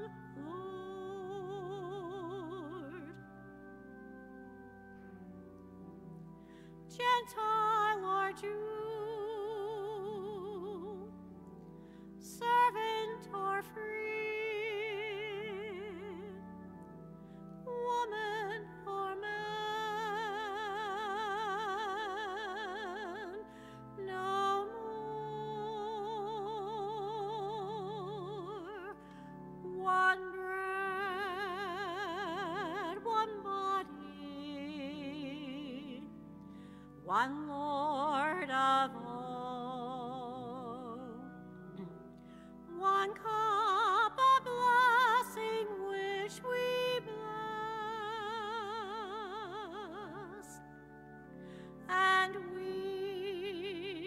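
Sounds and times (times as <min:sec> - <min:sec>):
woman singing a hymn: 0:00.0 - 0:03.3, 0:06.9 - 0:11.6, 0:12.2 - 0:16.8, 0:17.6 - 0:36.2, 0:37.0 - 0:50.7, 0:51.5 - 0:54.0.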